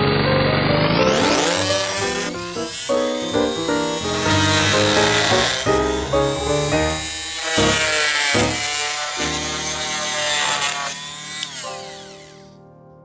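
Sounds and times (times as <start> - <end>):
background music: 0.0 - 13.0
oscillating multi-tool buzzing: 1.2 - 12.6.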